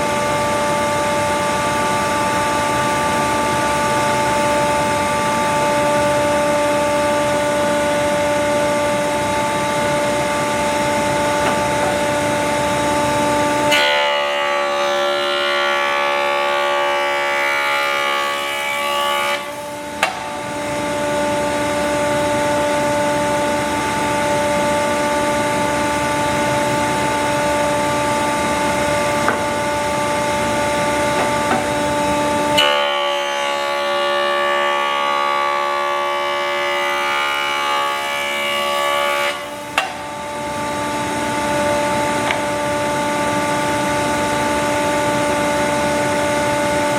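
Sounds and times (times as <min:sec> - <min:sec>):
woodworking power tool humming: 0:00.0 - 0:46.9.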